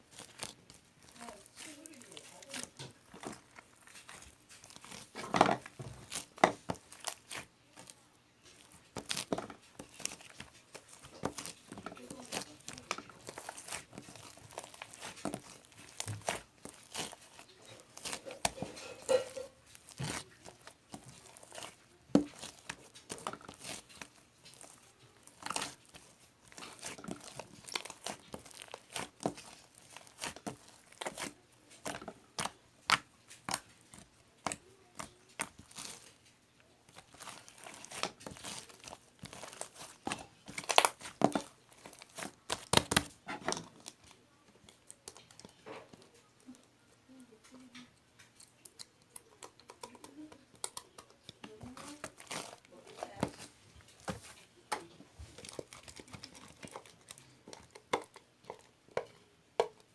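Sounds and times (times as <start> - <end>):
crinkling handling noises: 0.0 - 59.9.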